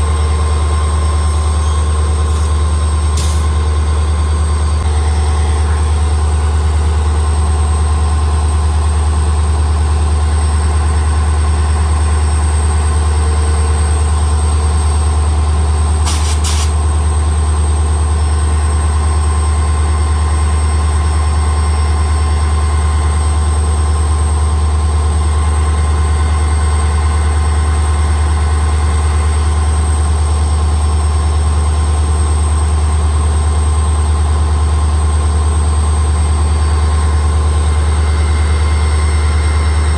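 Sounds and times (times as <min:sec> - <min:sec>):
diesel locomotive idling: 0:00.0 - 0:39.9.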